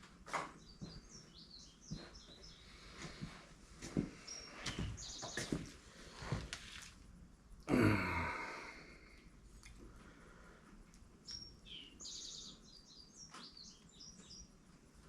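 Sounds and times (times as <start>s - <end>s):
birds chirping: 0.0s - 6.6s, 8.1s - 15.0s.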